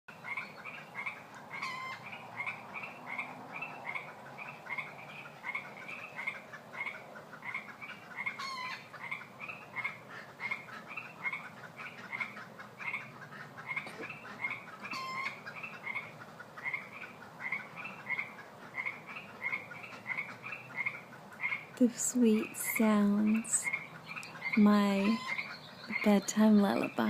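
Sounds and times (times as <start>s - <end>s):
frogs croaking in chorus: 0.1s - 27.0s.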